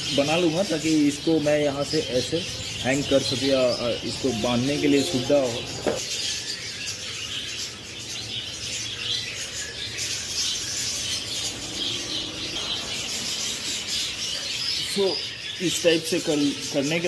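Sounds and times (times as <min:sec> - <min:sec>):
small birds chattering: 0:00.0 - 0:17.0.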